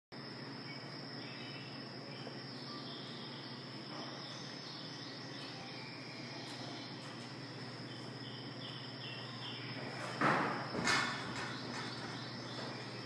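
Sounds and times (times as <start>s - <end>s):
high-pitched insect chorus: 0.2s - 13.0s
low steady hum: 0.2s - 13.0s.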